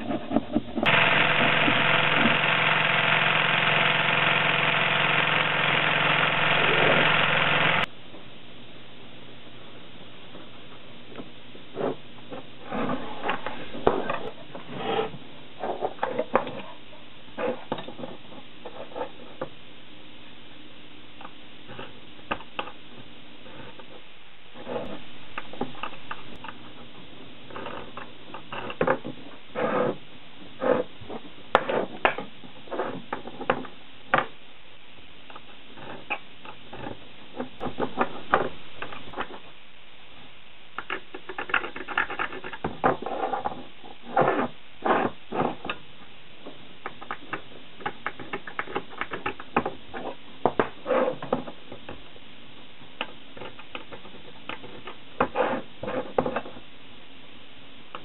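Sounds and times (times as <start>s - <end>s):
low background noise: 0.0s - 58.0s.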